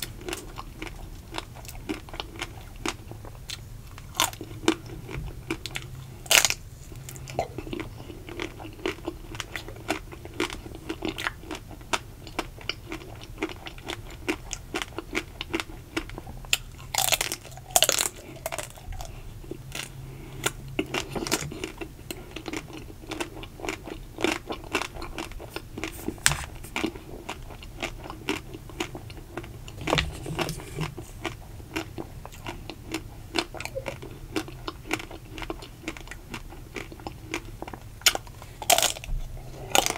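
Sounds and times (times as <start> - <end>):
chewing with small crunches: 0.0 - 39.9.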